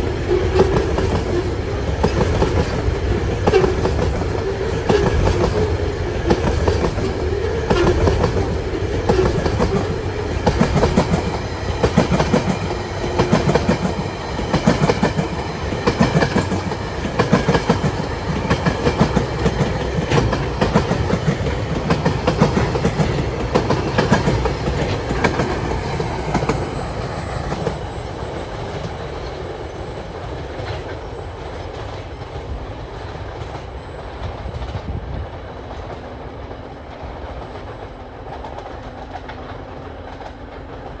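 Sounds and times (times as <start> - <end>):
train wheels clicking over rail joints: 0.0 - 41.0.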